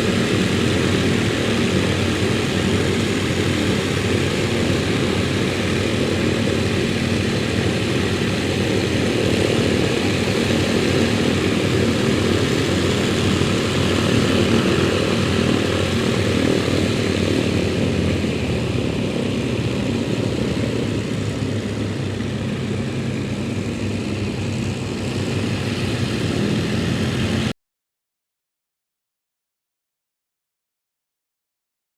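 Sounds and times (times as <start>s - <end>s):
propeller aircraft engine drone: 0.0s - 27.6s.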